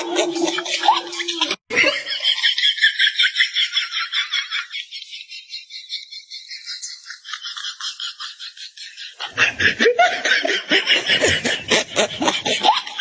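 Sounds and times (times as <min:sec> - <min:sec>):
laughter: 0:00.0 - 0:13.0.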